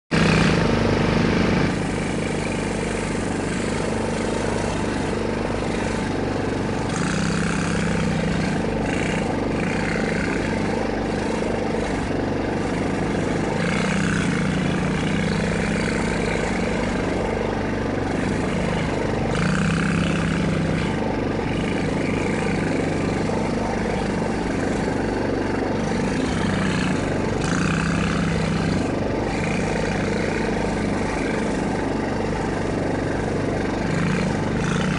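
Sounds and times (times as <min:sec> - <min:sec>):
quad engine running: 0:00.0 - 0:34.9.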